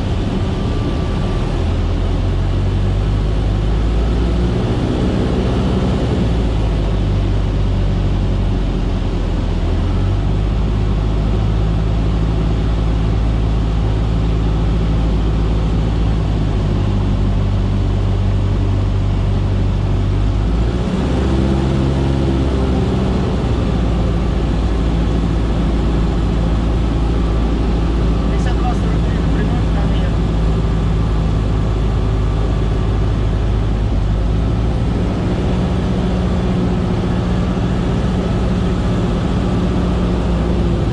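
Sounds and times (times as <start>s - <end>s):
propeller plane engine droning: 0.0s - 40.9s.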